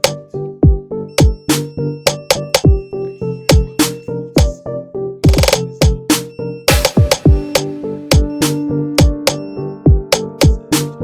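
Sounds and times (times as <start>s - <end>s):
electronic music with drum-machine beat: 0.0s - 11.0s.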